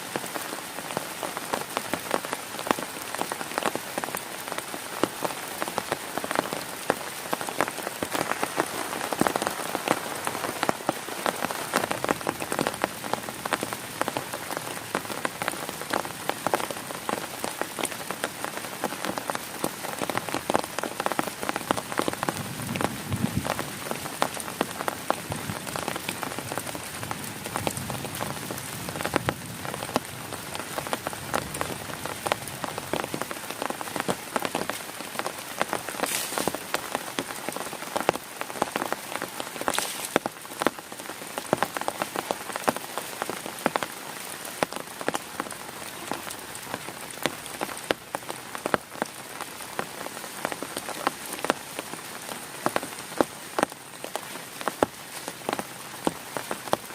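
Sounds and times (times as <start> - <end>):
heavy rain on a tent: 0.0 - 56.9.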